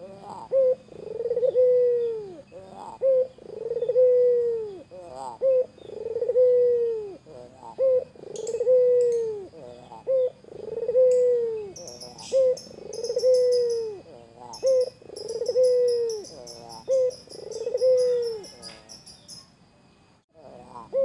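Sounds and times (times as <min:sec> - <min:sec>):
dove cooing: 0:00.0 - 0:19.0, 0:20.3 - 0:21.0
small birds chirping: 0:00.0 - 0:21.0.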